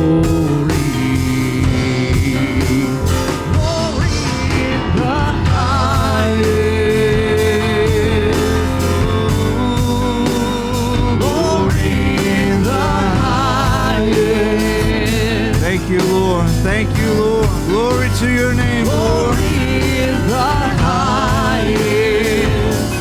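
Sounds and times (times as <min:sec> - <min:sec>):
worship band music: 0:00.0 - 0:23.0.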